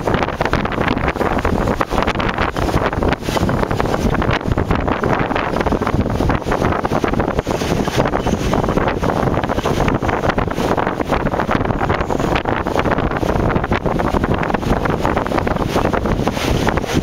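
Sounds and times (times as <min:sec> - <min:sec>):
wind blasting across microphone: 0:00.0 - 0:17.0.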